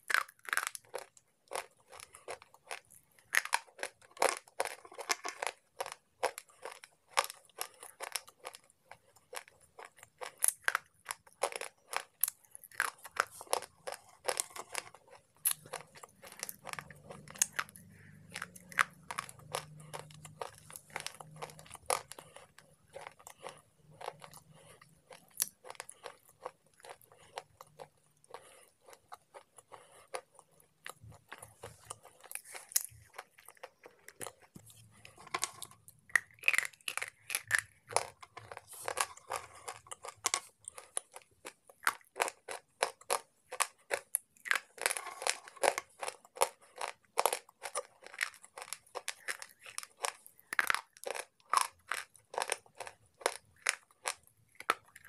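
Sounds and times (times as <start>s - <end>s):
pencils being bitten and chewed: 0.0s - 55.0s.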